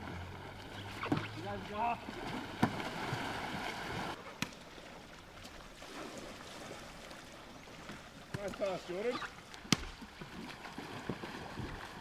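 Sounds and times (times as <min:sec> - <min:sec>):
paddles splashing water: 0:00.0 - 0:12.0.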